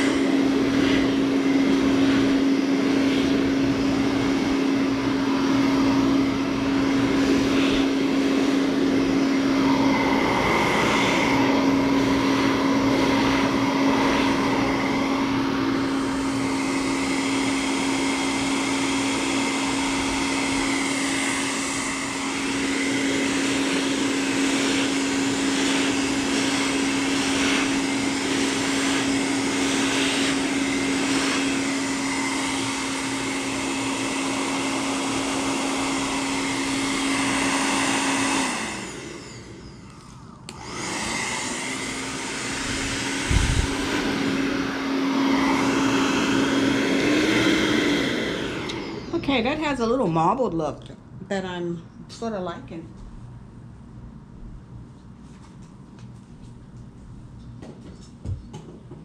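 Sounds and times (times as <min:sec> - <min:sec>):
hair dryer blowing: 0:00.0 - 0:50.7.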